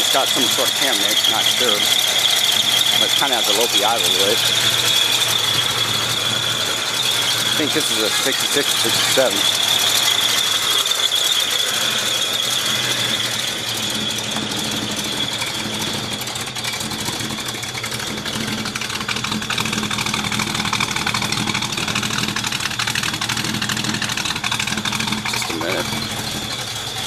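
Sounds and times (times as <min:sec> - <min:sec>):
high-pitched whine: 0:00.0 - 0:19.6, 0:23.3 - 0:27.0
car engine idling with a lope: 0:00.0 - 0:27.0.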